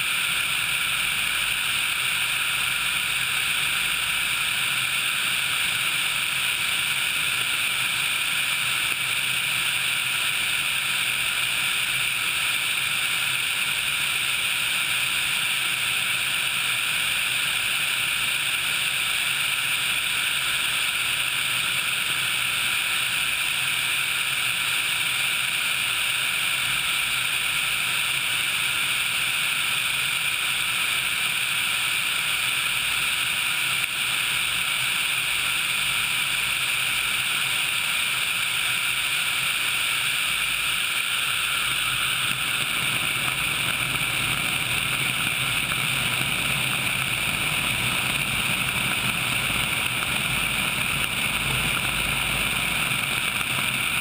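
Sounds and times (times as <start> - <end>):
helicopter in flight: 0.0 - 54.0.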